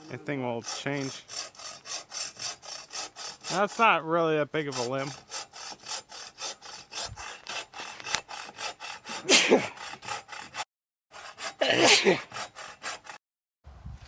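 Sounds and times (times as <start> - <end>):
hand saw cutting wood: 0.0 - 13.2.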